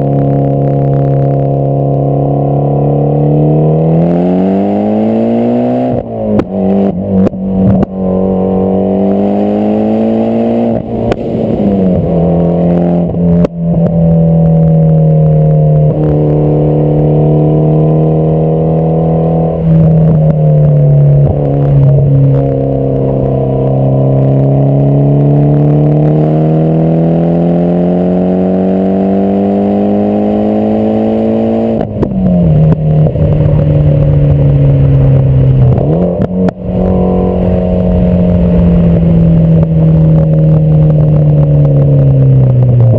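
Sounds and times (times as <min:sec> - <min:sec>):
car engine revving under load: 0:00.0 - 0:42.9.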